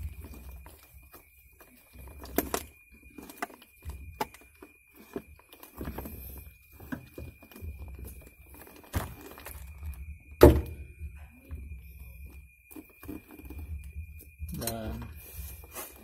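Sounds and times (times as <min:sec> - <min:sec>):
faint steady high tone: 0:00.0 - 0:16.0.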